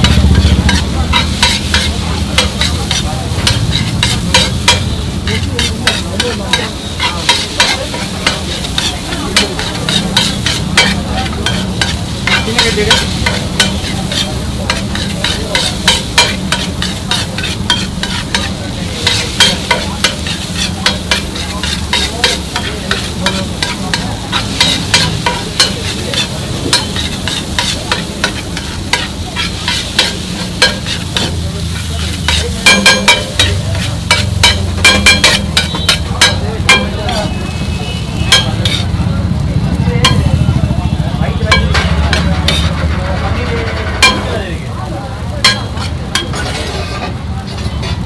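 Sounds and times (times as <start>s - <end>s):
ringing spatula clangs: 0.0s - 39.0s, 39.8s - 40.6s, 41.3s - 48.0s
spatula scraping on a griddle: 0.0s - 48.0s.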